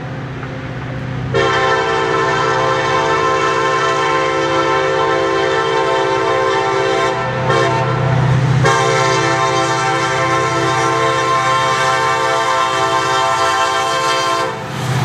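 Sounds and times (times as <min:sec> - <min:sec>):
locomotive engine low rumble: 0:00.0 - 0:15.0
locomotive air horn chord: 0:01.3 - 0:14.7.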